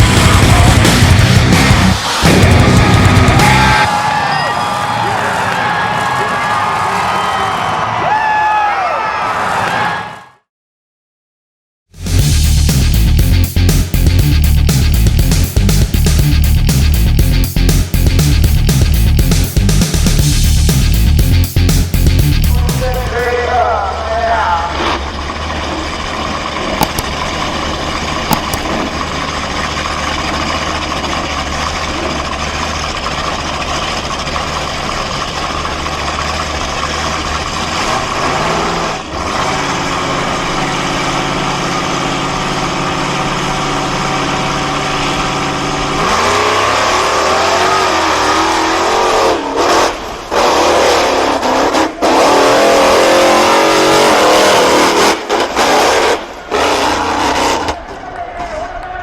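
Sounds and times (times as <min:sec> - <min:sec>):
monster truck engine revving: 0:00.0 - 0:07.6, 0:12.0 - 0:58.2.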